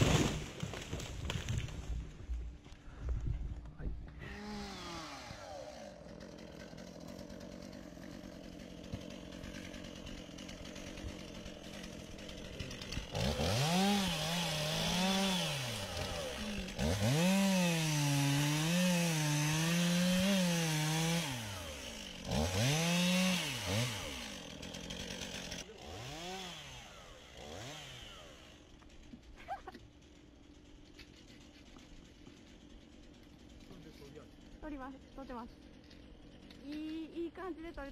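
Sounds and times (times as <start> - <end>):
chainsaw revving and cutting: 4.2 - 36.6.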